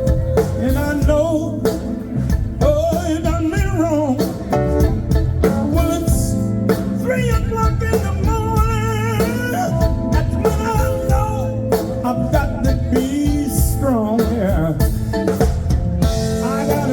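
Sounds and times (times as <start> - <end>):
blues band playing: 0.0 - 16.9.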